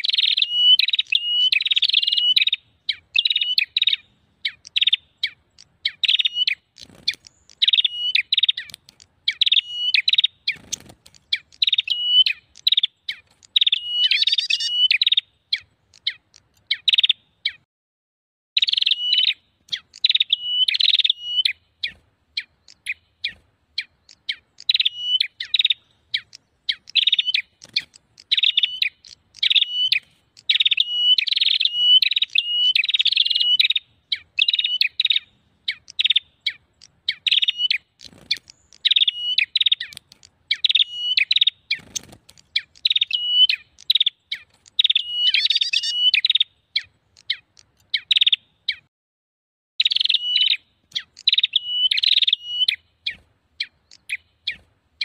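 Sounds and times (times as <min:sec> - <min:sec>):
songbird chattering chirps: 0:00.0 - 0:17.6, 0:18.6 - 0:48.9, 0:49.8 - 0:55.0.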